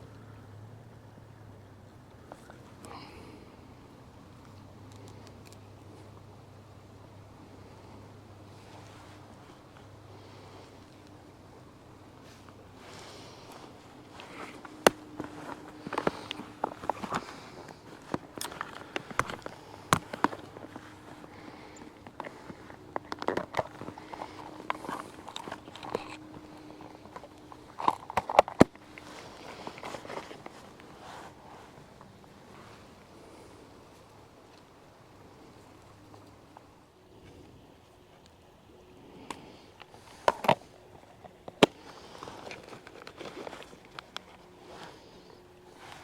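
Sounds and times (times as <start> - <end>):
faint background noise: 0.0 - 46.0
faint steady hum: 0.0 - 46.0.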